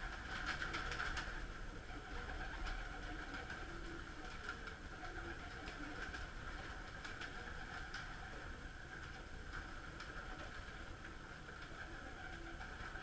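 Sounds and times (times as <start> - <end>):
wings fluttering: 0.0 - 13.0.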